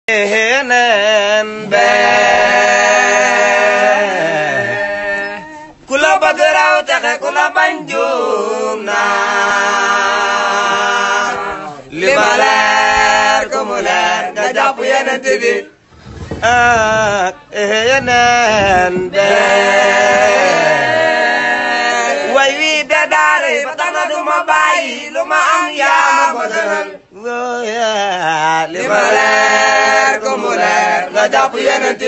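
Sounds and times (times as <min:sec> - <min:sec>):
men singing a cappella: 0:00.1 - 0:32.0.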